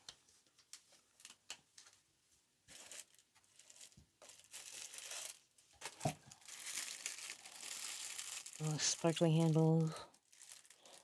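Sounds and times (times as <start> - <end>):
plastic wrapping crinkling: 0.0 - 2.0, 2.7 - 11.0.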